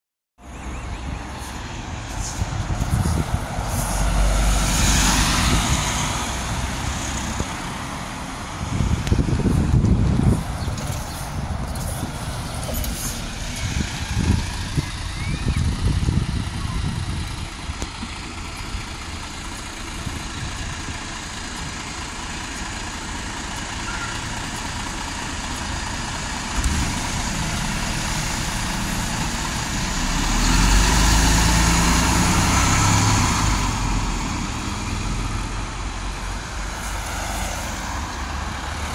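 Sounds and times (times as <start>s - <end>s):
bus engine hum: 0.4s - 38.9s.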